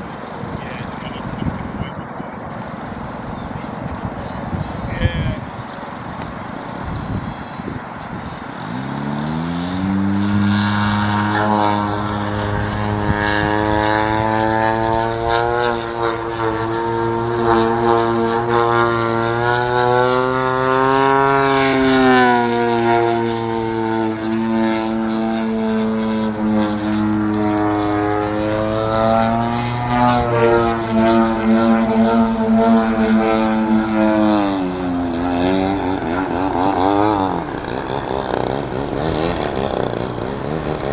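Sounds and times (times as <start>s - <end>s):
model airplane engine drone: 0.0s - 40.9s.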